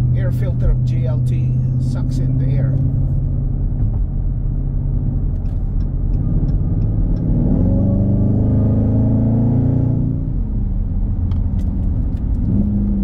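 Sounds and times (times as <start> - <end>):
car engine droning from inside: 0.0 - 13.0.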